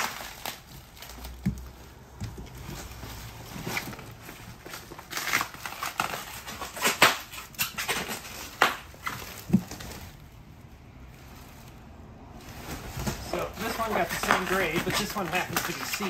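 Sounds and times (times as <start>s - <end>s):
packing material crinkling: 0.0s - 11.8s, 12.4s - 16.0s.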